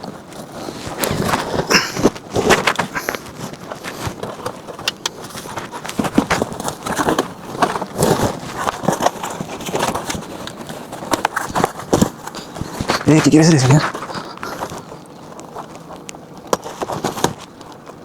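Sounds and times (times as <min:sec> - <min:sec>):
packaging rustling: 0:00.0 - 0:18.0.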